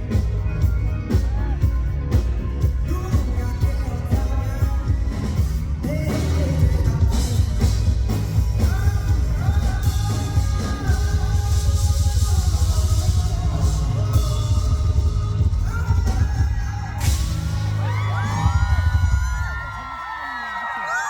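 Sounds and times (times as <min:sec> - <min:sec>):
live rock band playing: 0:00.0 - 0:19.7
man singing lead vocal: 0:00.0 - 0:20.0.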